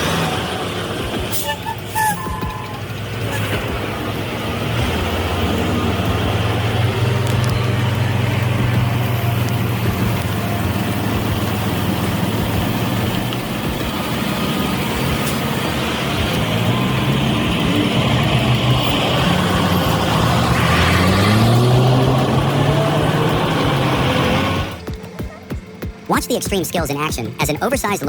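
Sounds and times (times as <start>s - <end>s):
truck engine droning: 0.0s - 28.0s.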